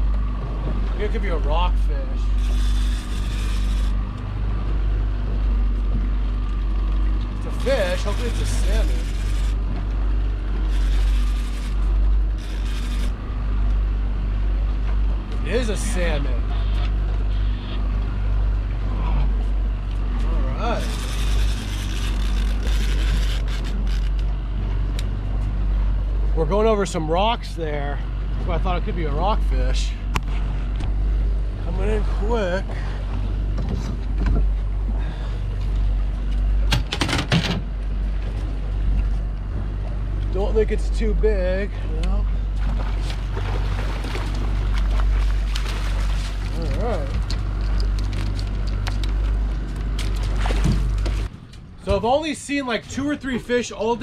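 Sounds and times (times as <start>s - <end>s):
outboard motor running: 0.0s - 54.0s.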